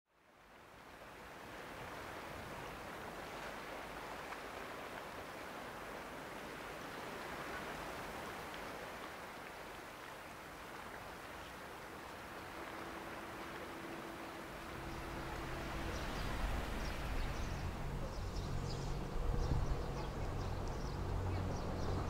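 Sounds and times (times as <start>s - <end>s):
water rushing: 0.2s - 22.0s.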